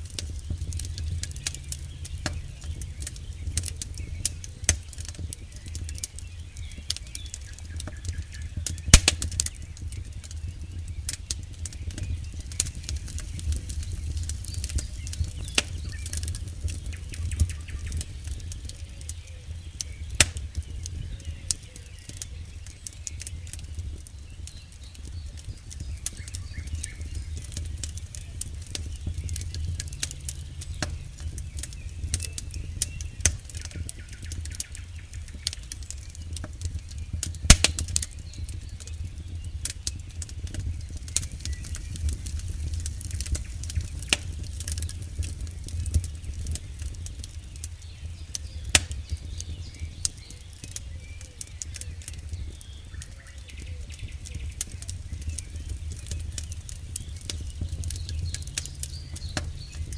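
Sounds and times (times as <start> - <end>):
campfire crackling and popping: 0.0 - 59.9
low steady rumble: 0.0 - 59.9.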